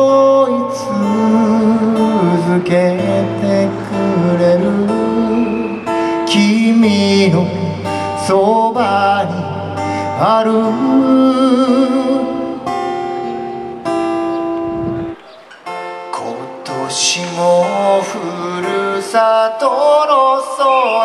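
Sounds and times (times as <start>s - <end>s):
man singing: 0.0s - 13.7s, 16.0s - 21.0s
acoustic guitar: 0.0s - 21.0s.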